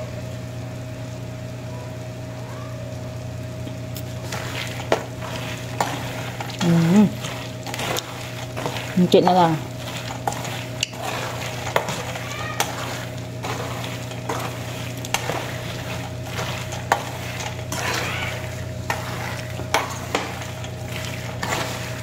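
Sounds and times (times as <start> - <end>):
steady low hum: 0.0 - 22.0
roasting nuts rattling: 3.6 - 22.0.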